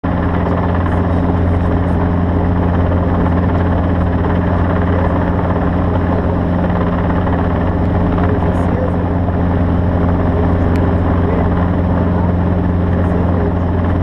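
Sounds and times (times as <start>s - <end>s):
loud engine drone: 0.0s - 14.0s.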